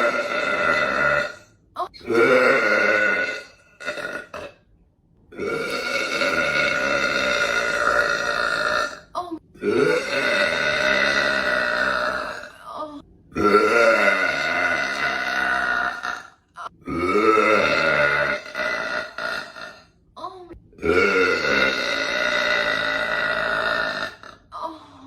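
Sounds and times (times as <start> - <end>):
woman burping loudly: 0.0 - 4.6, 5.3 - 25.0.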